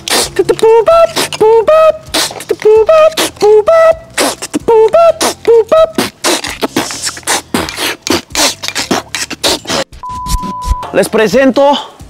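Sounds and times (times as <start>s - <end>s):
man chanting rhythmic syllables: 0.0s - 9.8s
beatbox clicks and hissing: 0.0s - 10.9s.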